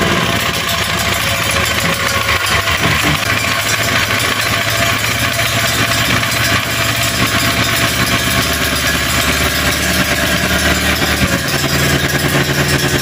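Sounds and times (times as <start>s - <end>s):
portable generator running: 0.0s - 13.0s.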